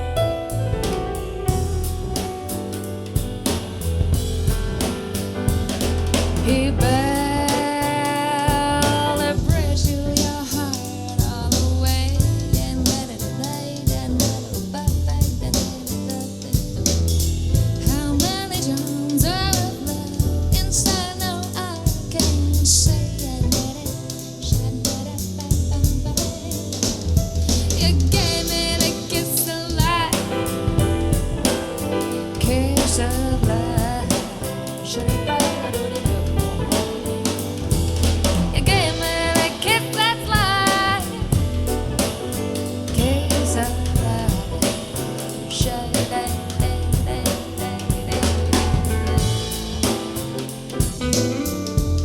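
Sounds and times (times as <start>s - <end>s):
bass line: 0.0s - 52.0s
drum kit: 0.0s - 52.0s
soul-jazz song with singing: 0.0s - 52.0s.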